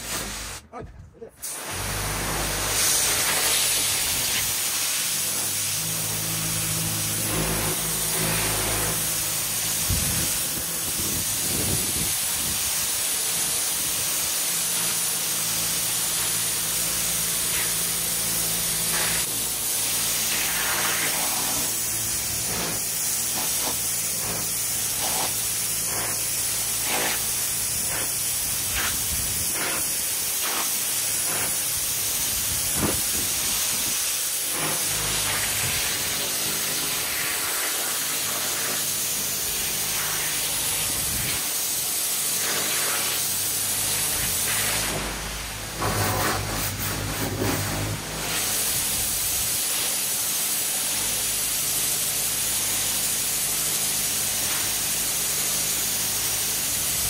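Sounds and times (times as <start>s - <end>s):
pressure washer spraying concrete: 0.0s - 57.0s.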